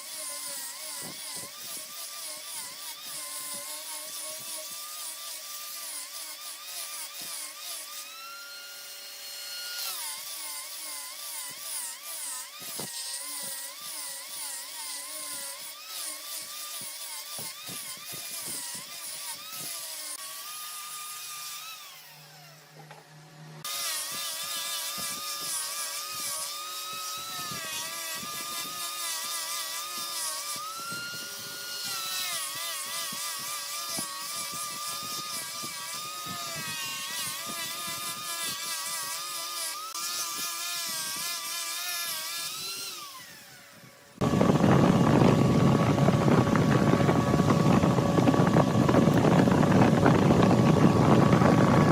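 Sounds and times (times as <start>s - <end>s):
lathe tool whining against wood: 0.0s - 51.9s.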